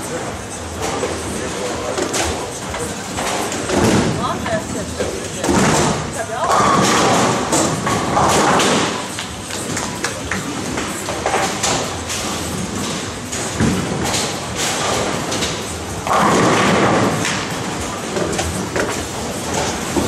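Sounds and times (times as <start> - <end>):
bowling ball rolling: 0.8 - 20.0
bowling pins clattering: 0.8 - 20.0.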